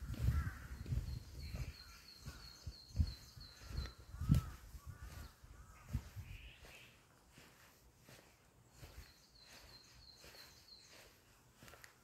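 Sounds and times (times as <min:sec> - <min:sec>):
wild birds calling: 0:00.0 - 0:11.7.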